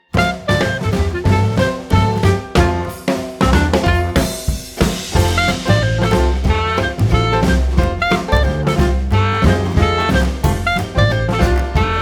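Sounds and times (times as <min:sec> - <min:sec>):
swing music with brass: 0:00.0 - 0:12.0.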